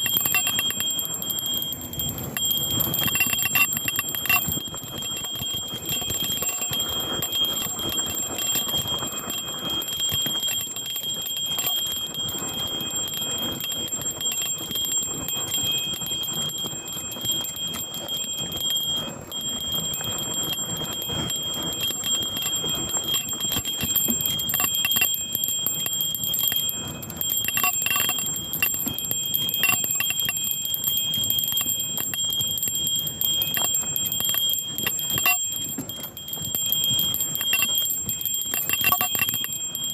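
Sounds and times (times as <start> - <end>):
bicycle bell ringing: 0.0 - 39.9
rush and rattle of bike ride: 0.0 - 39.9.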